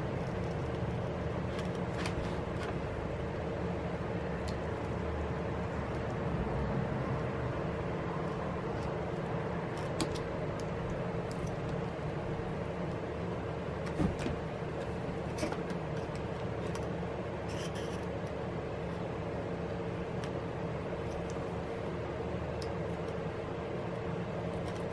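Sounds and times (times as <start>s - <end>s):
steady low hum drone: 0.0s - 24.9s.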